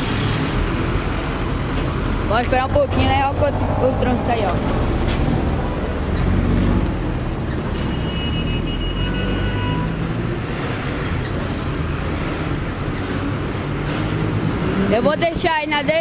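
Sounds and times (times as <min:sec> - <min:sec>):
buses passing with engine rumble: 0:00.0 - 0:16.0
street traffic: 0:00.0 - 0:16.0.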